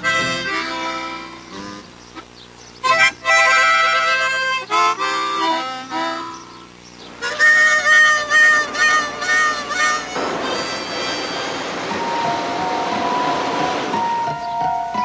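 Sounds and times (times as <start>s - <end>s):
harmonica playing slow tune: 0.0s - 15.0s.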